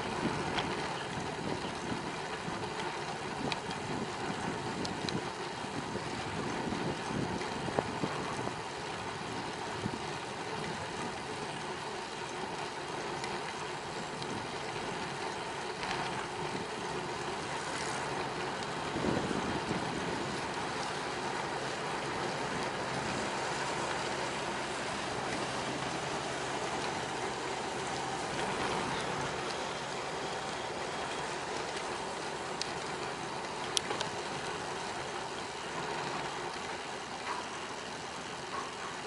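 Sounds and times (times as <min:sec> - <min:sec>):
bicycle tyres rolling on pavement: 0:00.0 - 0:39.0
wind: 0:00.0 - 0:39.0.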